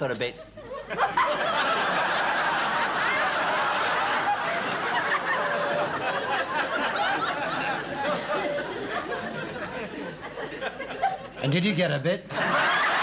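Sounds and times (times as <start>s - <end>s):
studio audience laughing: 0.5s - 11.5s, 12.3s - 13.0s.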